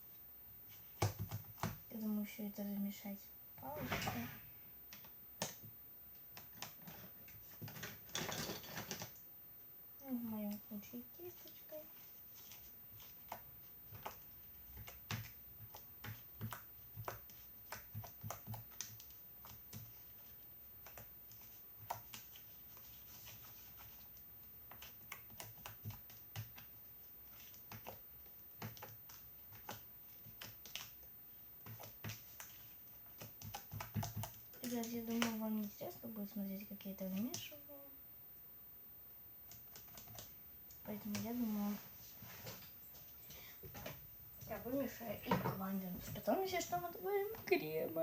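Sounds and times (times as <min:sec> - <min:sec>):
brush stirring sticky slime: 0:04.8 - 0:09.1, 0:10.2 - 0:37.8, 0:39.4 - 0:43.6, 0:44.3 - 0:48.0.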